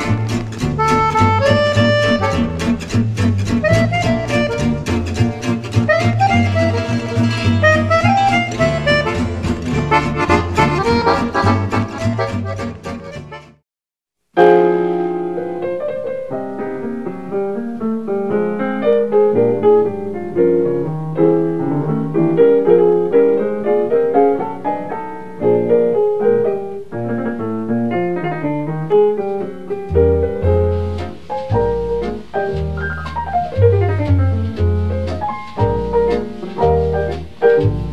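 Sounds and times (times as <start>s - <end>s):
piano music: 0.0s - 13.6s, 14.4s - 37.9s.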